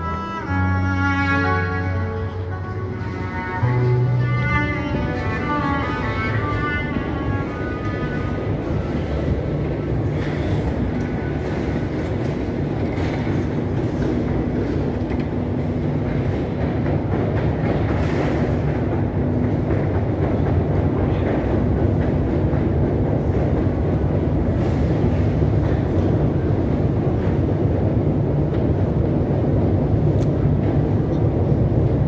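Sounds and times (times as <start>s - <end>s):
escalator rumble and hum: 0.0s - 32.0s.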